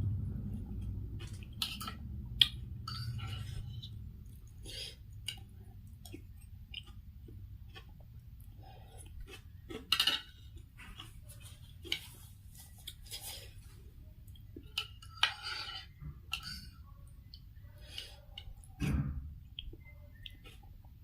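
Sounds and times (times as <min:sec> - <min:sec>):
chewing: 0:00.6 - 0:18.8, 0:19.4 - 0:21.0.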